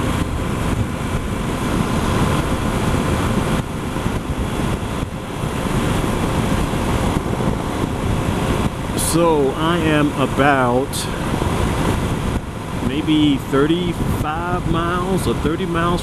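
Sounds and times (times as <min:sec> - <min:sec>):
motorcycle engine: 0:00.0 - 0:15.3
wind rushing over microphone: 0:00.0 - 0:16.0.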